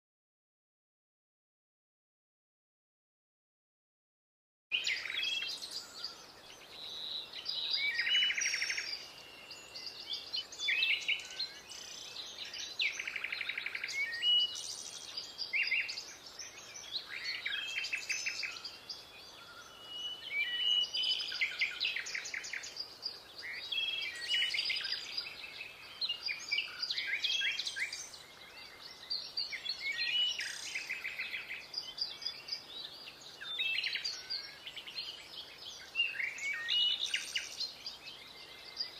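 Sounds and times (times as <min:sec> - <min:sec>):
birds chirping and singing: 0:04.7 - 0:38.9.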